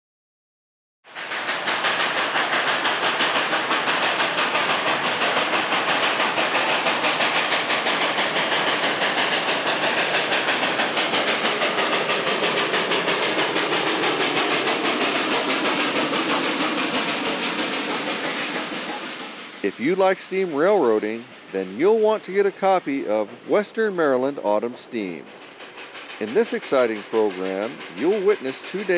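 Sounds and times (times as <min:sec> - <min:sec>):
steam locomotive exhaust chuffing: 0:01.1 - 0:28.9.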